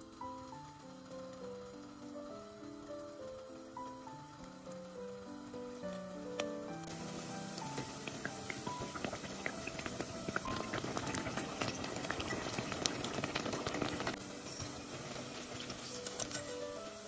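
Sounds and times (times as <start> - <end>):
food bubbling in hot oil: 0.0 - 17.0.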